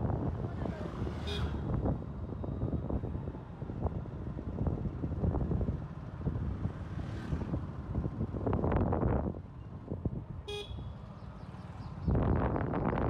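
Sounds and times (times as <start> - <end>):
wind rumbling on microphone: 0.0 - 10.4, 11.7 - 13.0
vehicle and road noise: 0.0 - 13.0.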